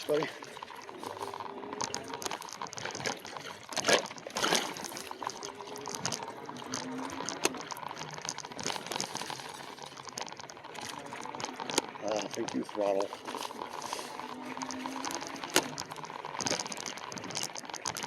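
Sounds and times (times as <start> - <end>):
bike tyre rolling and rattle: 0.0 - 18.0
scattered clicks: 0.0 - 18.0.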